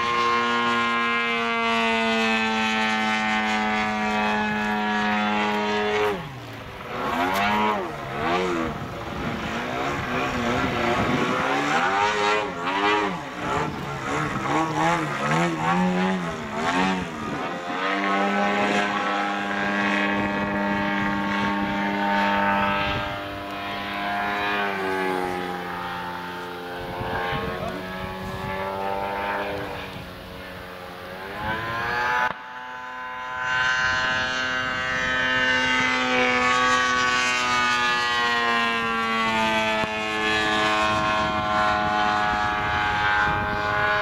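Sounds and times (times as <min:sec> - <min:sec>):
model plane engine drone: 0:00.0 - 0:44.0.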